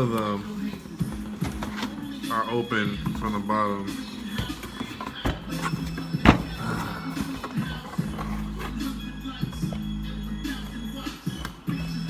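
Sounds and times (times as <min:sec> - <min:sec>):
background music with a beat: 0:00.0 - 0:12.0.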